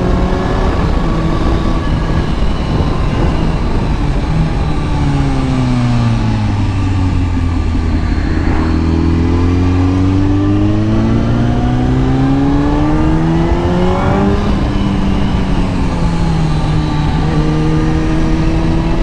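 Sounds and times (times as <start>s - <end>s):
motorcycle engine accelerating: 0.0s - 19.0s
wind noise: 0.0s - 19.0s.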